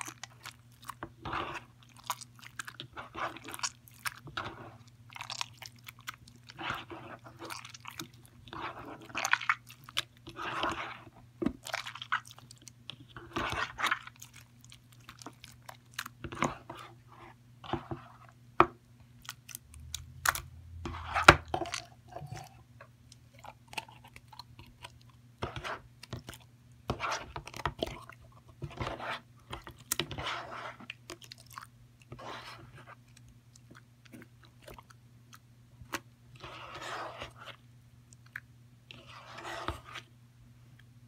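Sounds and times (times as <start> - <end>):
wet slime squelching: 0.0 - 18.4, 19.1 - 40.1.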